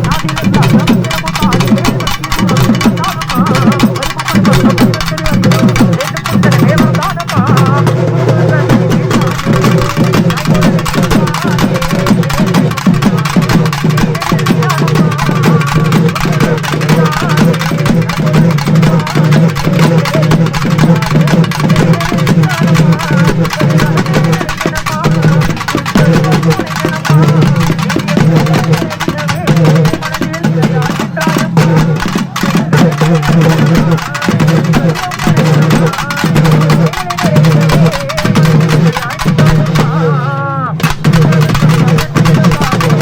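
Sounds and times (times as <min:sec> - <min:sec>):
fast continuous drumming: 0:00.0 - 0:43.0.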